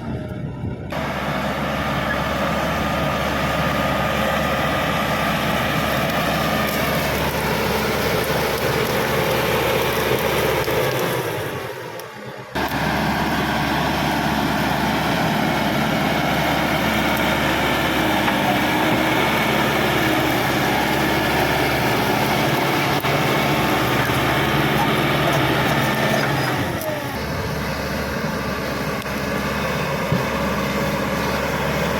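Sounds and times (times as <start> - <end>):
bulldozer diesel engine running: 0.0 - 31.9.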